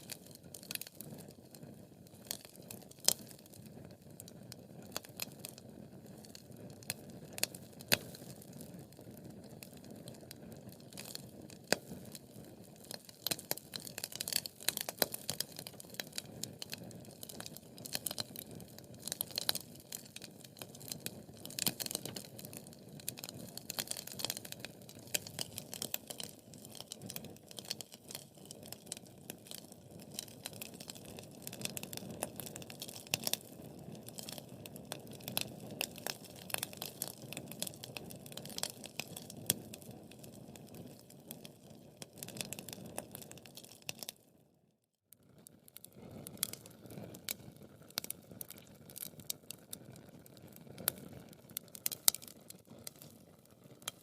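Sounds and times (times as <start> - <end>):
wood fire crackling and popping: 0.0 - 44.3, 45.1 - 54.0.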